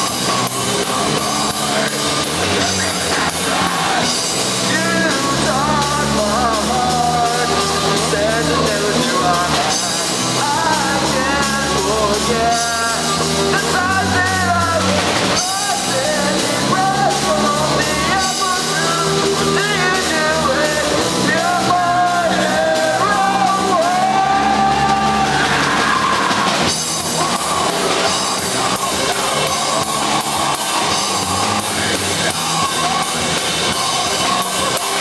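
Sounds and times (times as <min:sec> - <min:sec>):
person singing: 0:00.0 - 0:35.0
rock guitars and drum kit: 0:00.0 - 0:35.0.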